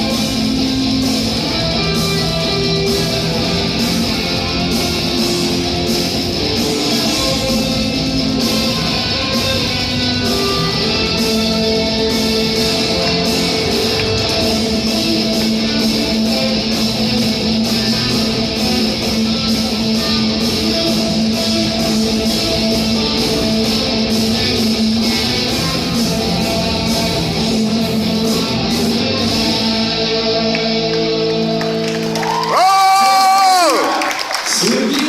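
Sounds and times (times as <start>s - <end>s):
drums and cymbals: 0.0s - 29.7s
electric guitar strumming: 0.0s - 32.4s
bass guitar: 0.0s - 33.7s.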